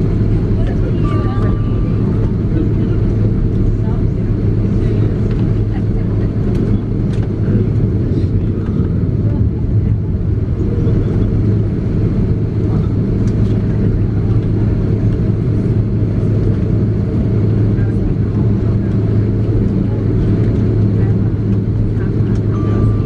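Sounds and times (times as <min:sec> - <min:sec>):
aircraft engines humming at idle: 0:00.0 - 0:23.0.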